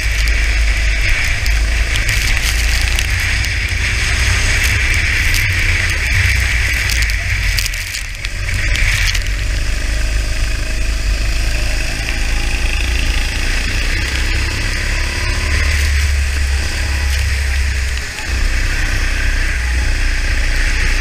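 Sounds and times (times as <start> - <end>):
heavy low rumble: 0.0 - 20.9
go-kart engine accelerating: 0.0 - 21.0.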